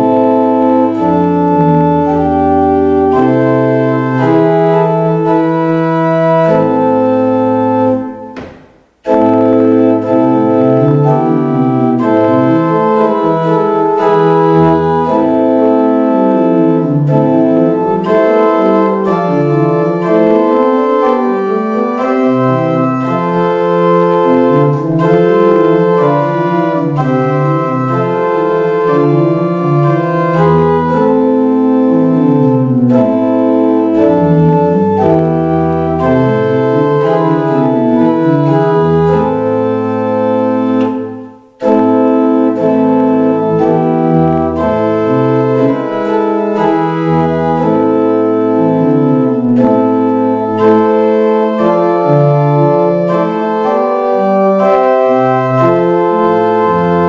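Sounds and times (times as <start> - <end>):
pipe organ playing: 0.0 - 57.0.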